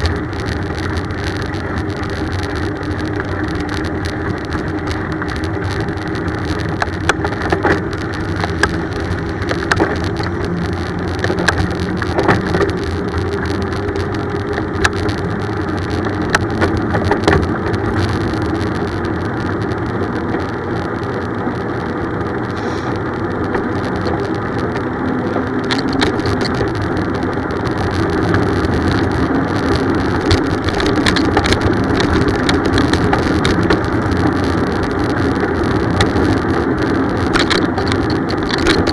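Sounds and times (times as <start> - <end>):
bicycle rumbling along road: 0.0 - 38.9
sharp clicks and rattles: 0.0 - 38.9.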